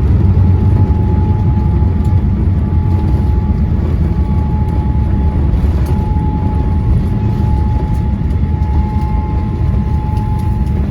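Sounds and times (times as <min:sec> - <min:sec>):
airliner cabin rumble: 0:00.0 - 0:10.9
thin constant whine: 0:00.0 - 0:10.9.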